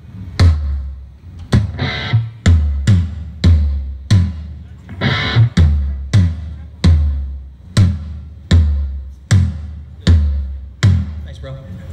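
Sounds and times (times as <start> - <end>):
low drum strikes: 0.2 - 11.7.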